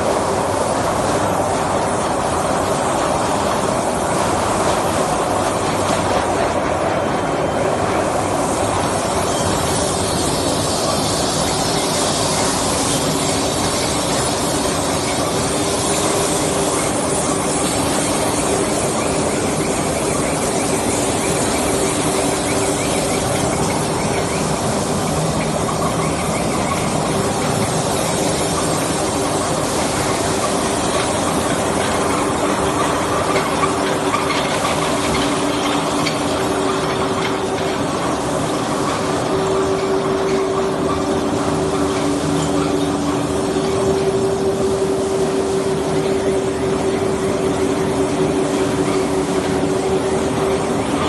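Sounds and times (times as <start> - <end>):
steel slitting machine drone: 0.0 - 51.0.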